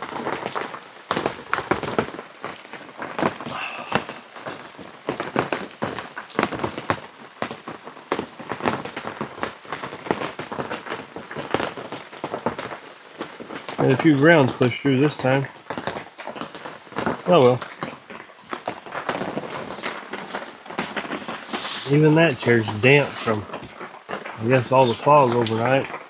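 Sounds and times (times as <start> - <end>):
rain on fabric awning: 0.0 - 26.0.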